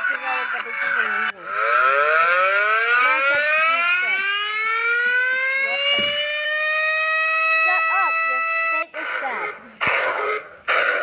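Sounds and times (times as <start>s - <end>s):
siren winding up: 0.0s - 9.0s, 10.0s - 11.0s.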